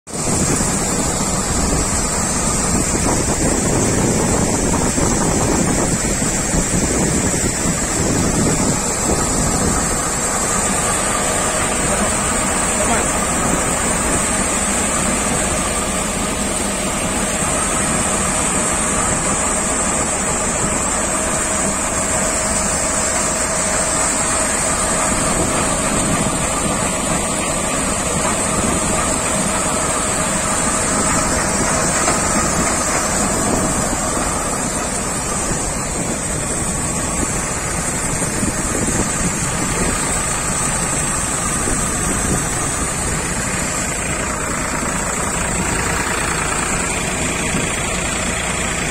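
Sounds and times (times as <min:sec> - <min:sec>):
grain thresher humming and whining: 0:00.0 - 0:48.9
tractor engine: 0:00.0 - 0:48.9.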